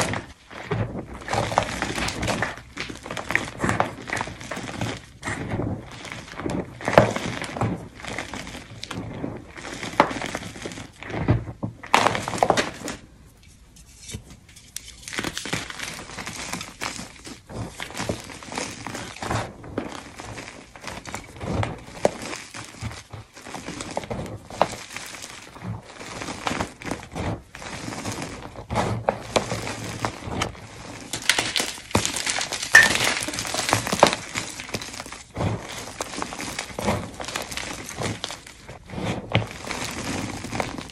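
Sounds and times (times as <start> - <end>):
hands crushing chalk in a bowl: 0.0 - 40.9.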